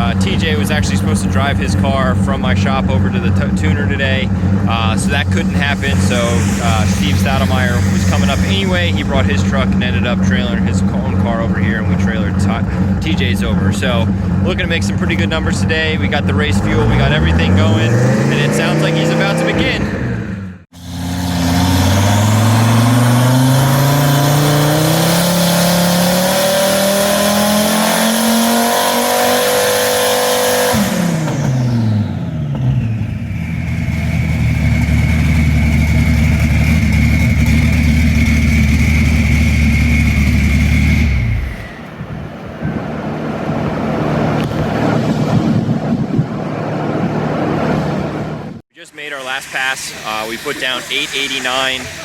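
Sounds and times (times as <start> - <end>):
engine revving at full throttle: 0.0 - 48.6, 49.2 - 52.0
high whine: 0.0 - 52.0.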